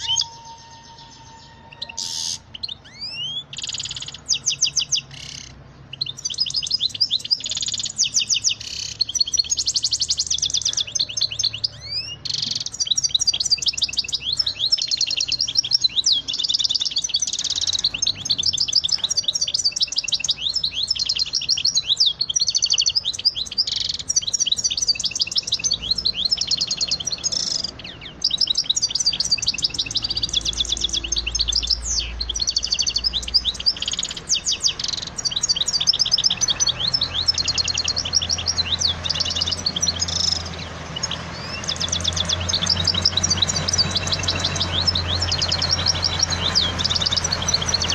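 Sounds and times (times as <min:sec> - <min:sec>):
songbird trilling: 0:00.0 - 0:47.9.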